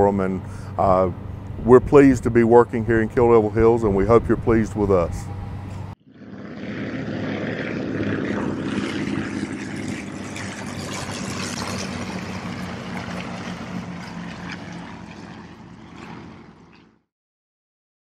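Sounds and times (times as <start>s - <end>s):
propeller airplane engine droning: 0.0s - 17.1s.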